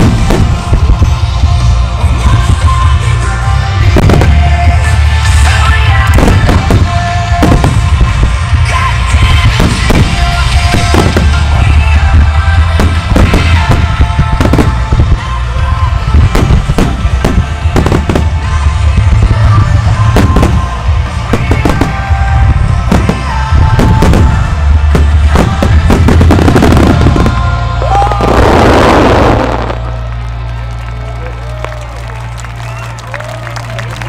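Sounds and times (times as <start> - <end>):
fireworks bursting with bangs: 0.0 - 30.8
crackling sparks: 0.0 - 34.0
music: 0.0 - 34.0.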